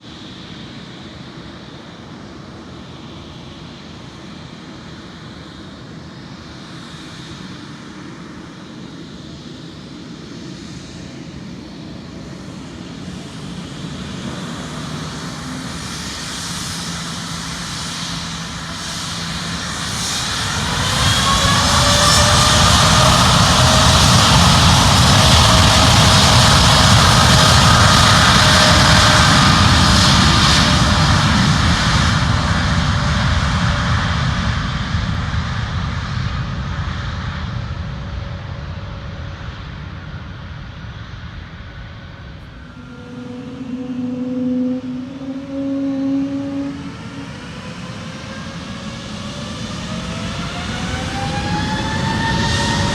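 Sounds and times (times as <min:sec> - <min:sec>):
airliner engines at takeoff: 0:00.0 - 0:52.9
jet engine whine: 0:00.0 - 0:52.9.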